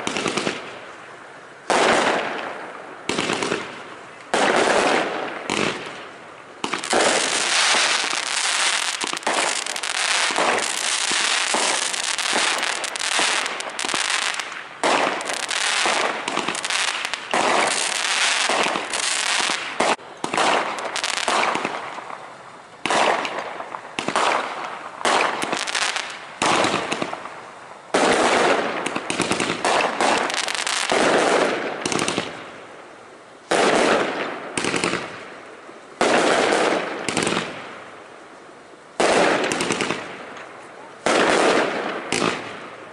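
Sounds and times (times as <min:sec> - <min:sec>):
fireworks bangs and crackles: 0:00.0 - 0:00.8, 0:01.7 - 0:32.6, 0:33.4 - 0:35.4, 0:36.0 - 0:37.9, 0:39.0 - 0:42.9.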